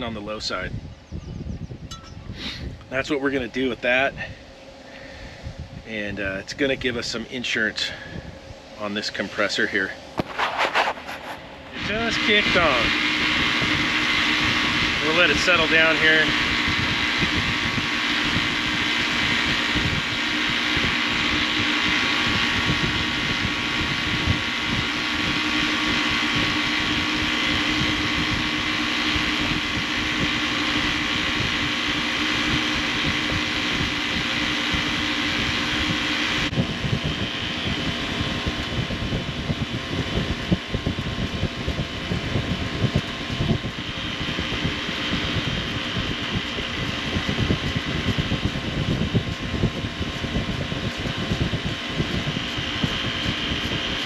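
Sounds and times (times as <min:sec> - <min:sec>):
refrigeration unit humming: 0:00.0 - 0:54.0
low rumble: 0:07.8 - 0:54.0.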